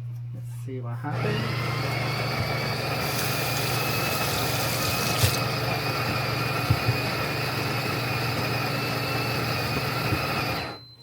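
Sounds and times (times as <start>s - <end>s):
coffee grinder whirring: 1.1s - 10.8s.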